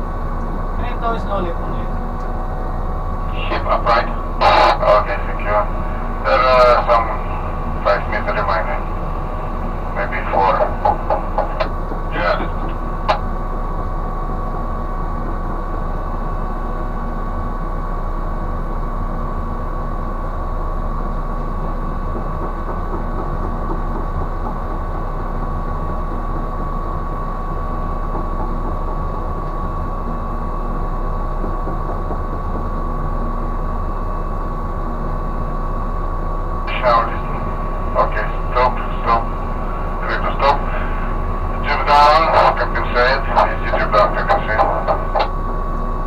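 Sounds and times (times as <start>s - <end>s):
high machinery whine: 0.0s - 46.0s
low engine drone: 0.0s - 46.0s.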